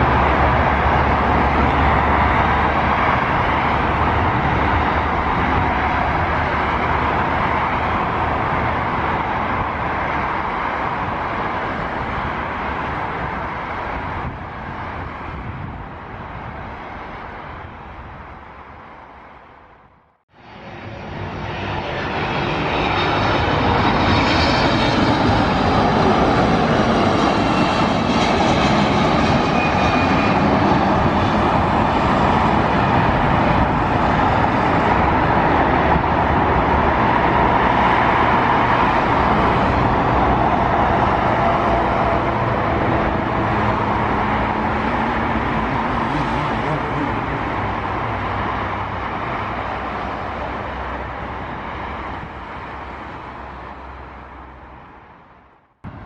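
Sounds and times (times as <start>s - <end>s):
high engine whine: 0.0s - 56.0s
jet engines roaring: 0.0s - 56.0s.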